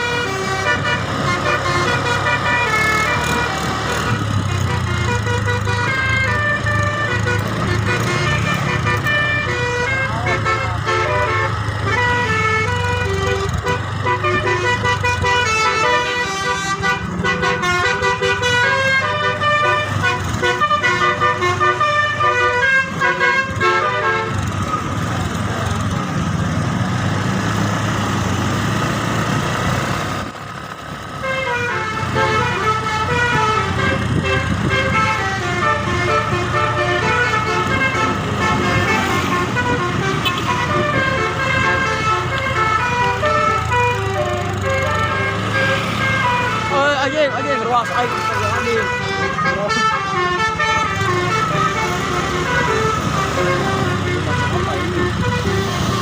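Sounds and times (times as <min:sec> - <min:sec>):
bus horn playing melody: 0:00.0 - 0:25.0, 0:31.2 - 0:56.0
bus engine humming: 0:00.0 - 0:56.0.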